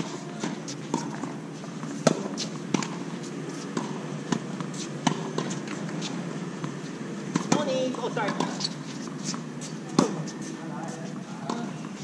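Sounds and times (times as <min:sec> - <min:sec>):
tennis balls bouncing on court: 0:00.0 - 0:10.2, 0:11.1 - 0:12.0
tennis balls struck by racquets: 0:00.0 - 0:10.3.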